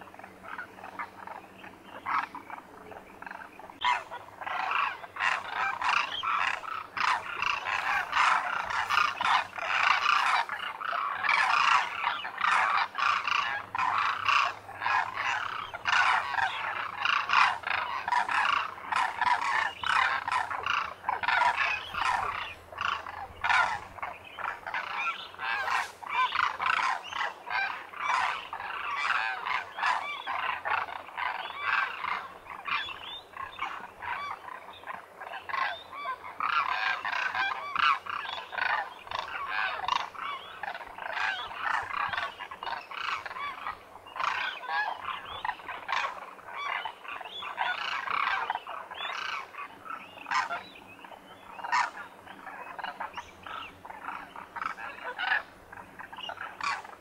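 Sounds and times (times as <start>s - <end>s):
flock of cranes calling: 0.0s - 57.0s.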